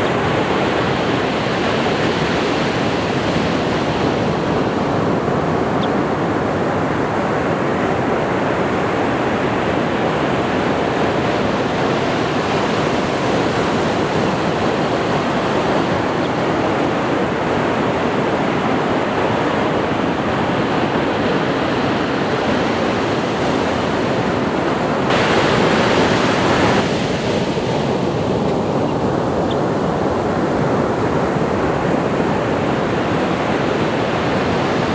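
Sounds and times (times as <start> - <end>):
ocean waves breaking on shore: 0.0 - 34.9.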